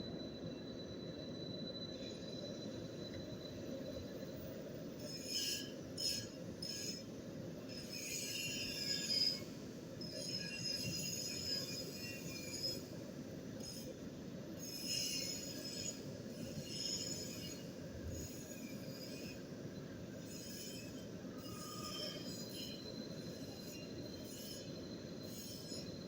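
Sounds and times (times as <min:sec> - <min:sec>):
metal cutting squeals: 0:00.5 - 0:26.0.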